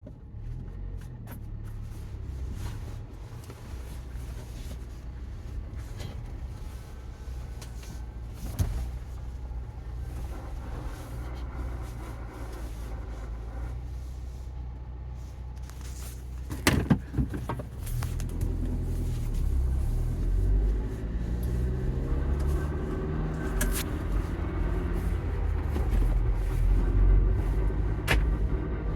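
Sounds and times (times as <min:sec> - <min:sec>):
engine idling: 0:00.2 - 0:28.9.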